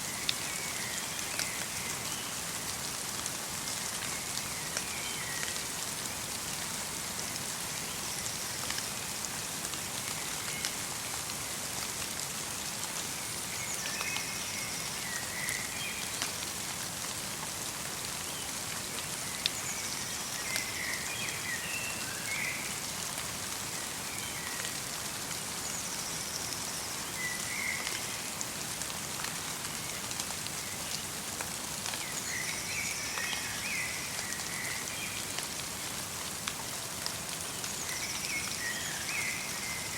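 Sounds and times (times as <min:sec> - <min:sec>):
light rain and snow pattering: 0:00.0 - 0:39.9.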